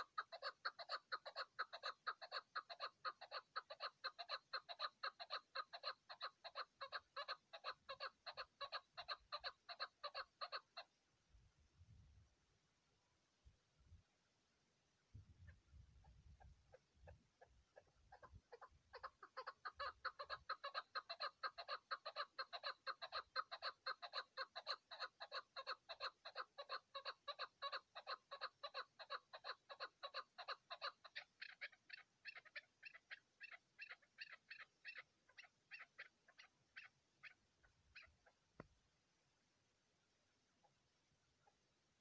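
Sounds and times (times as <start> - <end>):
partridge clucking calls: 0.0 - 11.0, 15.4 - 38.7.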